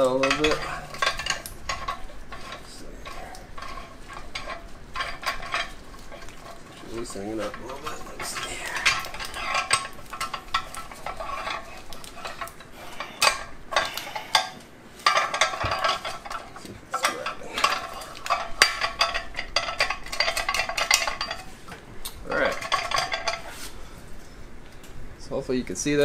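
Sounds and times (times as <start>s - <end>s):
metal scraping and grinding: 0.0s - 23.8s.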